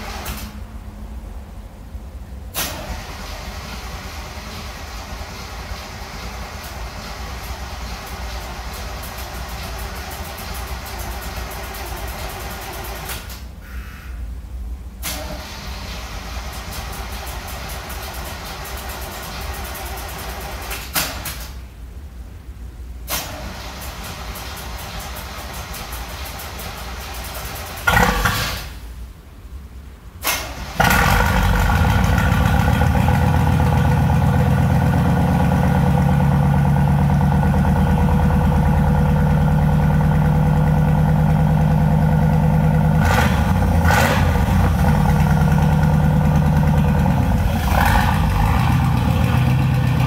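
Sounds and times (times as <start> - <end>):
pickup engine starting and idling: 0.0 - 0.8, 2.4 - 13.5, 15.0 - 21.6, 23.0 - 29.2, 30.2 - 50.0.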